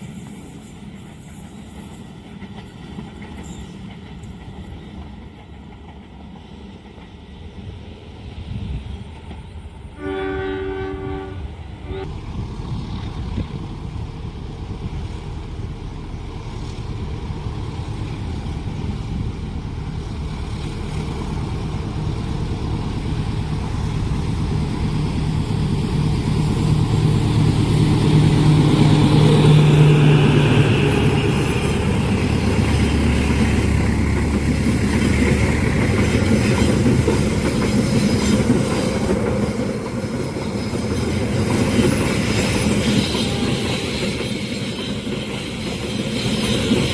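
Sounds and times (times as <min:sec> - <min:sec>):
locomotive engine hum: 0:09.2 - 0:46.9.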